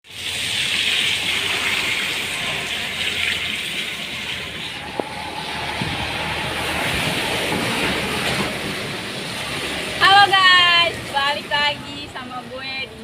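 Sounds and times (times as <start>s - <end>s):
rain hissing: 0.0s - 11.2s.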